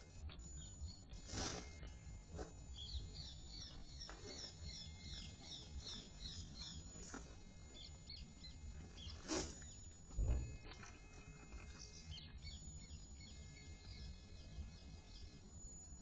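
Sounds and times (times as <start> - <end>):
faint low rumble: 0.0 - 16.0
small bird chirping: 0.2 - 16.0.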